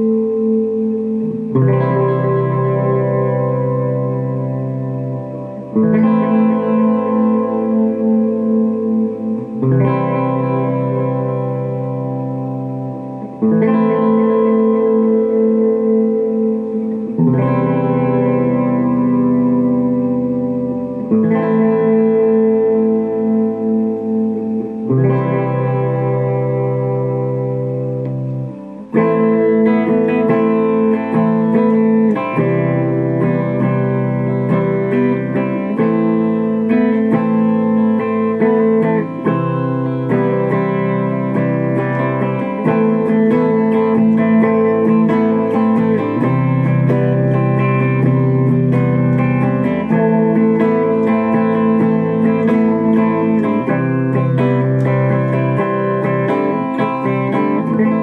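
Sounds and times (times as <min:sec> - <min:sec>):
electric guitar through amplifier: 0:00.0 - 0:58.0.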